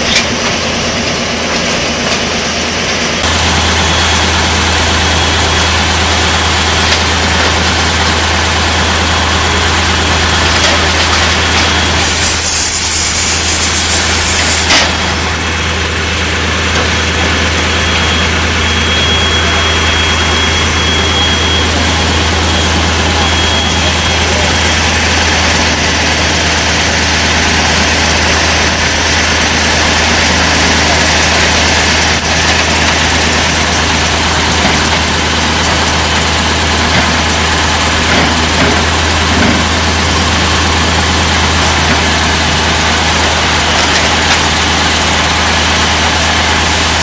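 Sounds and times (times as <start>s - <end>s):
heavy engines running: 0.0s - 47.0s.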